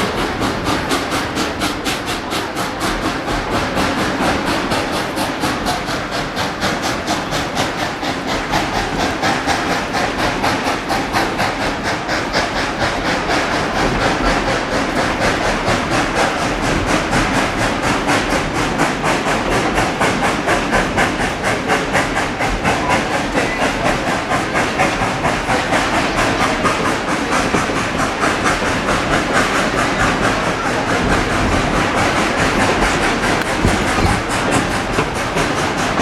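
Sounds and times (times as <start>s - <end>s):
train wheels clattering: 0.0s - 36.0s.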